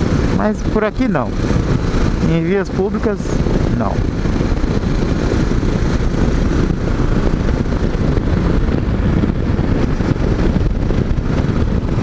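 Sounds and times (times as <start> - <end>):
motorcycle engine and tyres on wet road: 0.0 - 12.0
wind rushing over microphone: 0.0 - 12.0.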